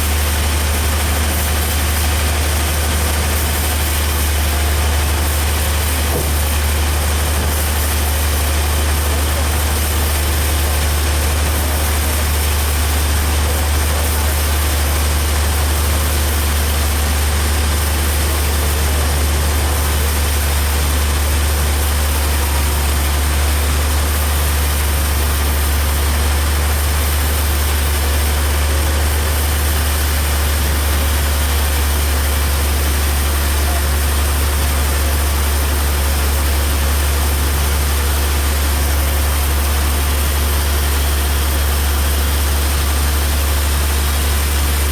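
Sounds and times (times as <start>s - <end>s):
heavy engine droning: 0.0s - 44.9s.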